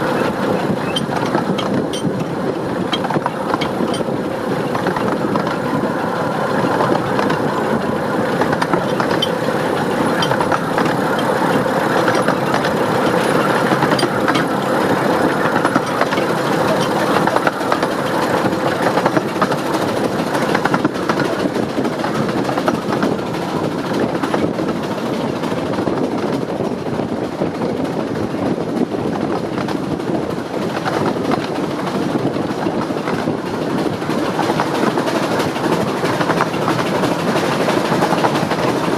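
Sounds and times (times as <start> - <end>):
steam locomotive exhaust beating: 0.0 - 38.9
wheels running on rails: 0.0 - 38.9.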